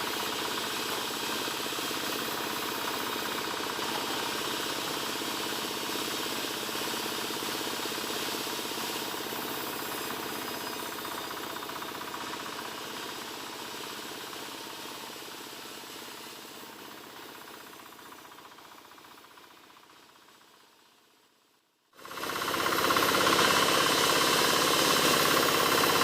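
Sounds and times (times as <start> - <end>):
motor-driven wood saw: 0.0 - 20.5, 22.0 - 26.0.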